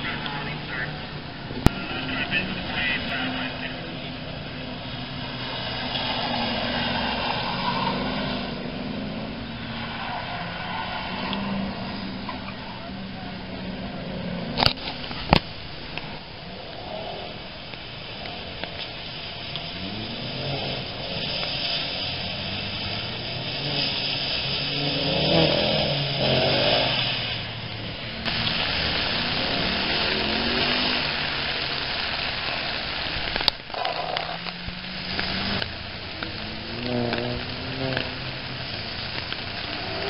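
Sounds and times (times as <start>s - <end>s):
car engine revving: 0.0s - 40.0s
rain hissing: 0.0s - 40.0s.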